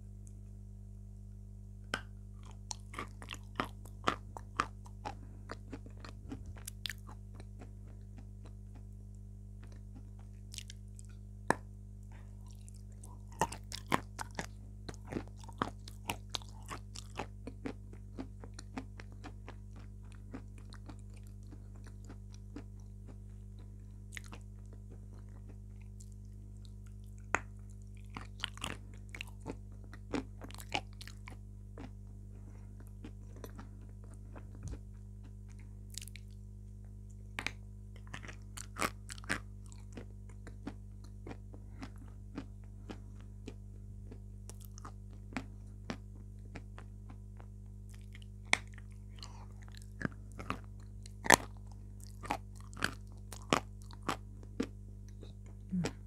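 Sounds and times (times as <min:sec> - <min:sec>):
crunching and chewing: 0:01.9 - 0:56.0.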